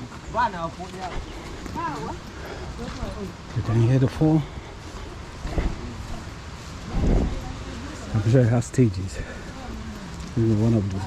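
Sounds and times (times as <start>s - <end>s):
distant waterfall hiss: 0.0s - 11.0s.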